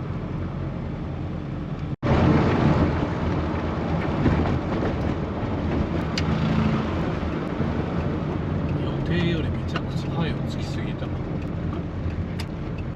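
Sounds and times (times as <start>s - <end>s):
car engine running: 0.0s - 12.9s
road noise: 0.0s - 12.9s.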